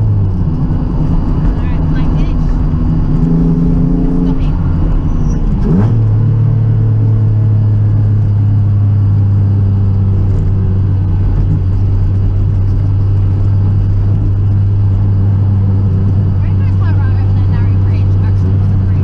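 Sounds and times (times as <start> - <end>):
car engine droning inside cabin: 0.0 - 19.0.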